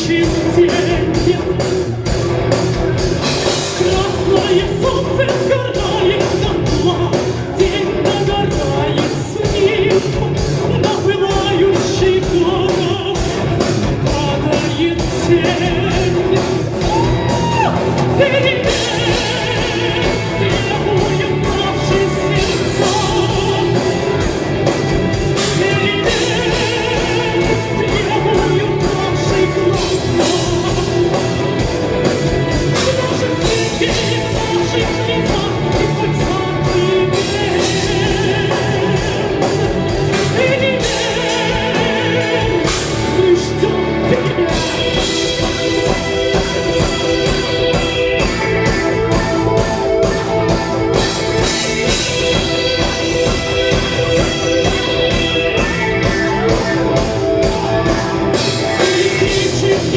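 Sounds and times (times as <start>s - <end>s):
person singing: 0.0s - 2.2s, 3.4s - 59.9s
live rock band playing: 0.0s - 59.9s.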